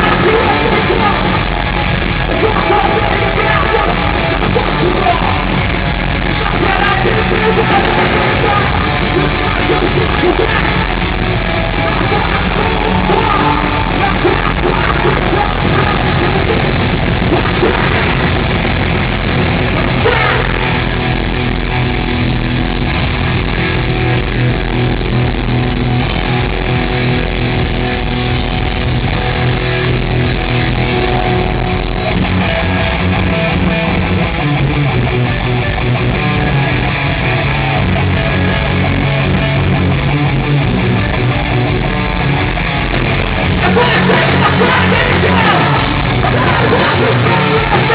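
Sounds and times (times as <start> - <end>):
distorted electric guitars: 0.0 - 47.9
rock drums: 0.0 - 47.9.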